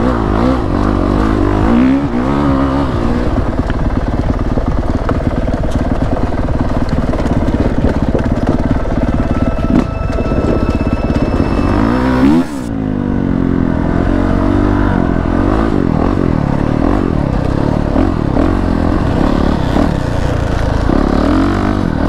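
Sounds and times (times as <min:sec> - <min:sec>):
dirt bike engine revving: 0:00.0 - 0:04.7, 0:07.2 - 0:22.0.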